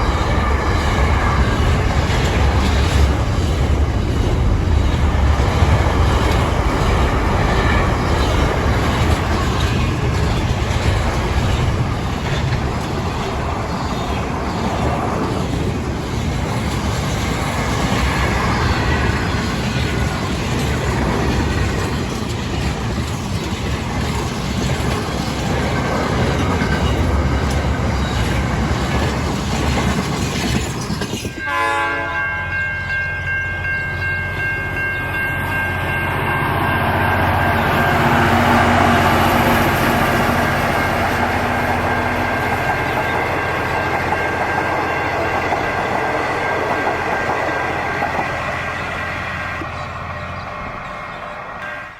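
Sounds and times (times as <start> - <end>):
freight train wagons rumbling: 0.0 - 51.9
rail clatter: 0.0 - 51.9.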